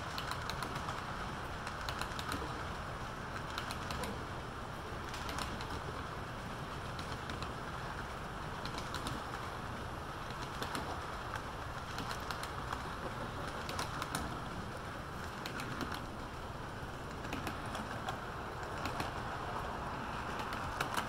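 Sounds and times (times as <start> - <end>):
model train wheels humming: 0.0 - 21.0
wheels clicking over rail joints: 0.0 - 21.0.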